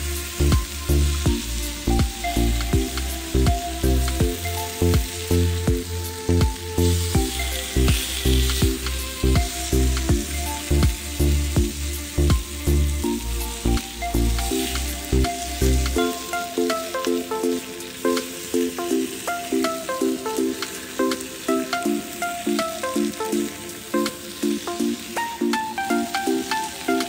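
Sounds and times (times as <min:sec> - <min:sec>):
food sizzling in oil: 0:00.0 - 0:27.0
plucked rhythmic background music: 0:00.0 - 0:27.0.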